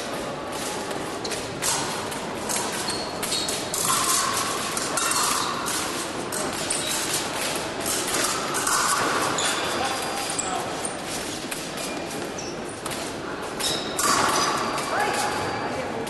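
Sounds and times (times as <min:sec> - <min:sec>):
scattered clicks and knocks: 0:00.0 - 0:15.5
steady hall noise: 0:00.0 - 0:16.0.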